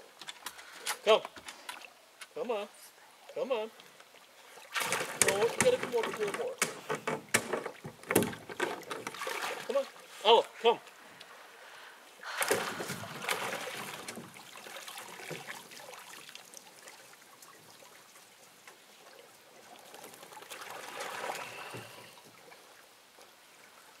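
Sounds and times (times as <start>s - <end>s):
water trickling and dripping: 0.2s - 11.4s, 12.4s - 24.0s
water splashing: 3.2s - 11.3s, 12.2s - 24.0s.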